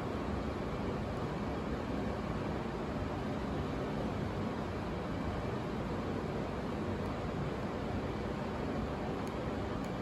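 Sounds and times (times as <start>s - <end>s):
air conditioner blowing: 0.0s - 10.0s.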